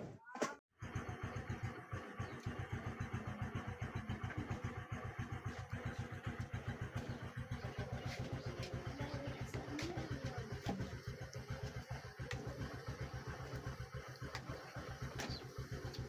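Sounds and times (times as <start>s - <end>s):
small engine idling: 0.8s - 16.0s.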